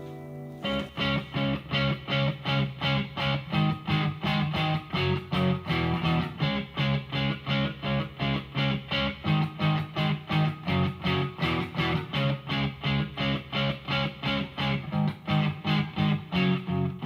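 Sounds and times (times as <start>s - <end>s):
guitar chords strummed: 0.0s - 17.0s.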